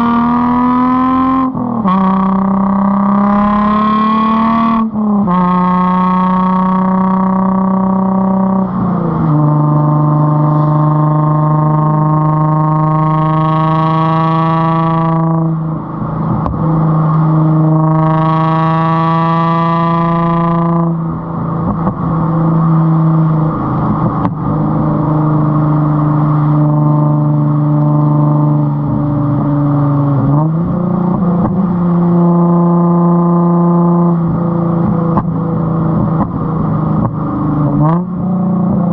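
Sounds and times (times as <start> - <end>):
car exhaust droning: 0.0 - 38.9.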